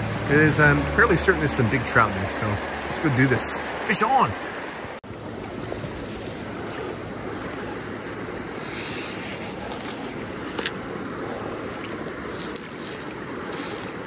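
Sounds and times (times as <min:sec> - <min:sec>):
river rushing over gravel: 0:00.0 - 0:14.0.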